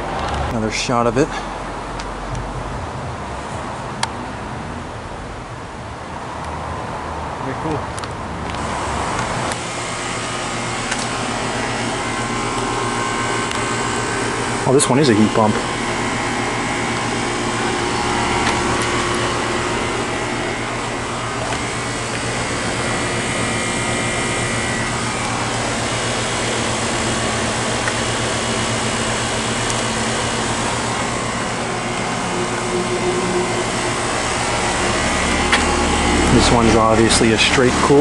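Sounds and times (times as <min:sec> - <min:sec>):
air conditioning unit running: 0:00.0 - 0:06.4, 0:07.4 - 0:38.0.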